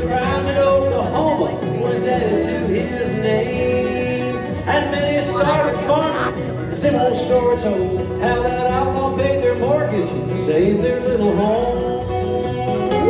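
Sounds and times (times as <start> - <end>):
live country band playing: 0.0 - 13.0
man singing: 0.0 - 13.0.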